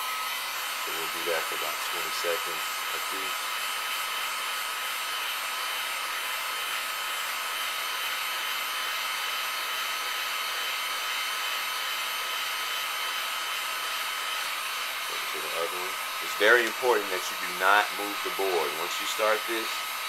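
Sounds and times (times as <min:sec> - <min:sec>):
heat gun blowing: 0:00.0 - 0:20.0.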